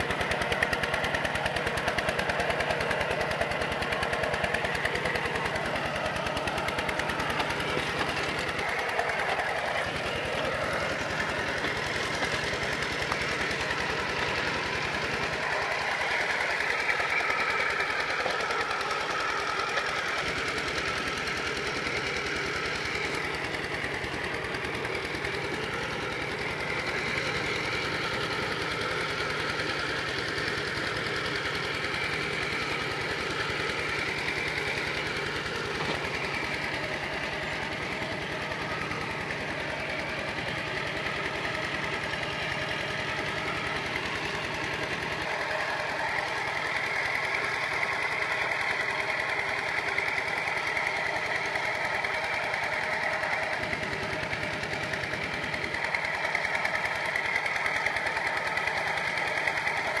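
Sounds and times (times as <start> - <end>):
diesel tractor engine chugging: 0.0 - 60.0.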